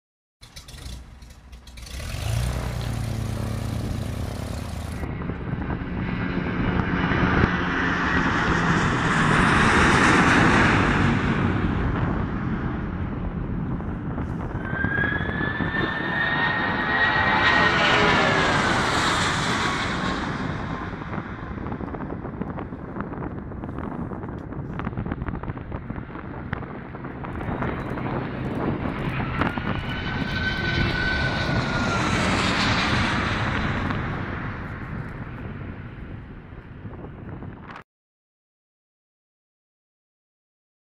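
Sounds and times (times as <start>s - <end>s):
high jet engine whine: 0.4s - 37.8s
loud rushing jet noise: 2.0s - 23.6s, 25.0s - 37.7s.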